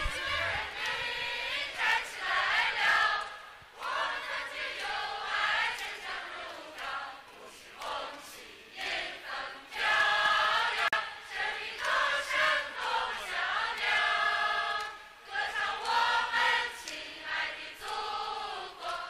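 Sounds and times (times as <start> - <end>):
crowd singing in unison: 0.0 - 19.0.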